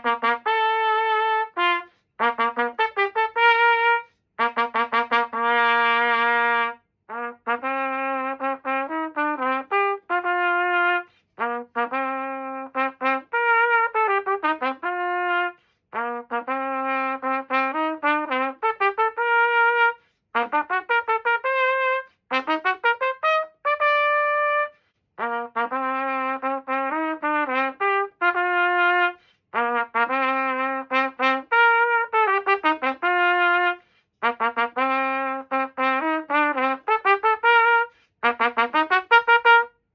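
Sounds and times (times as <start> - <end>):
trumpet playing a melody: 0.0 - 39.9.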